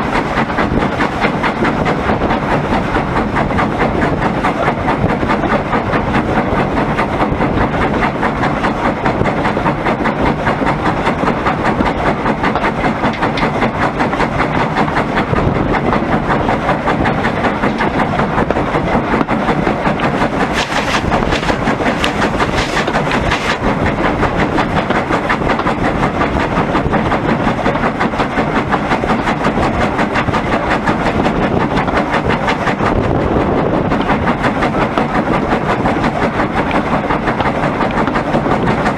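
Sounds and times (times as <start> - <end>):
steam locomotive running: 0.0 - 38.9.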